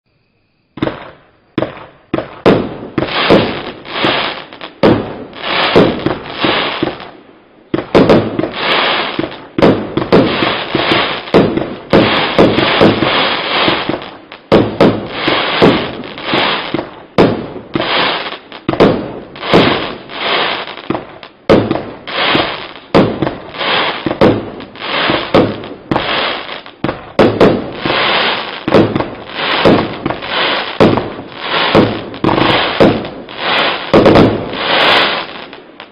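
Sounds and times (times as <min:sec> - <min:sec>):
fireworks firing: 0:00.8 - 0:35.9.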